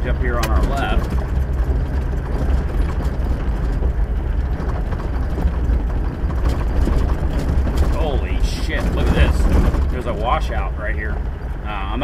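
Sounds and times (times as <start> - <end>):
vehicle engine and tyre rumble: 0.0 - 12.0
vehicle rattling: 0.0 - 12.0.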